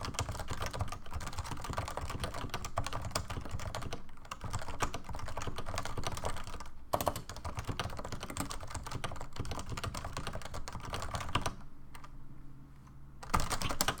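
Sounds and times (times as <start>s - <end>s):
keyboard typing: 0.0s - 12.2s, 13.2s - 14.0s.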